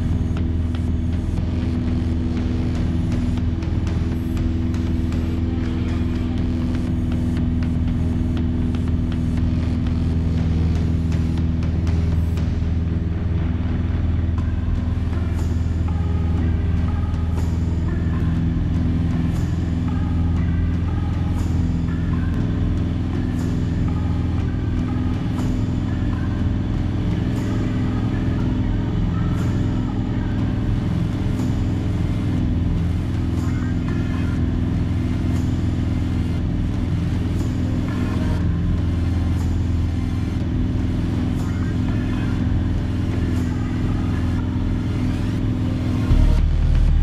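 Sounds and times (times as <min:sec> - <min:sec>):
airplane engine drone in cabin: 0:00.0 - 0:47.0.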